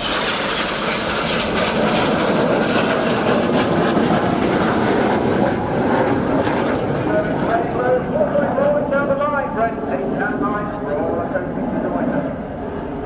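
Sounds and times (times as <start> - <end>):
jet noise: 0.0 - 13.0.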